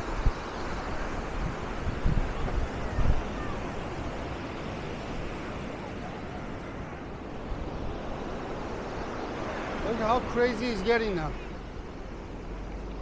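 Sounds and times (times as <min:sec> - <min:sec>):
surf washing up a beach: 0:00.0 - 0:13.0
wind buffeting microphone: 0:00.0 - 0:13.0.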